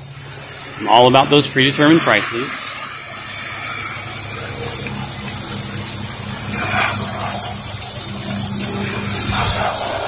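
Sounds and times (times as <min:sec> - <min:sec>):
pressure washer engine hum: 0:00.0 - 0:10.0
water jet hissing: 0:00.0 - 0:10.0.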